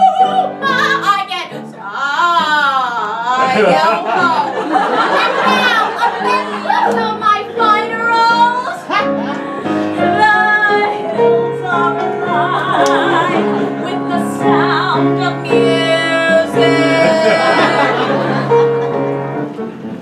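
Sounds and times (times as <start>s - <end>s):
woman singing: 0.0s - 4.5s, 5.2s - 18.4s
upright piano: 0.0s - 20.0s.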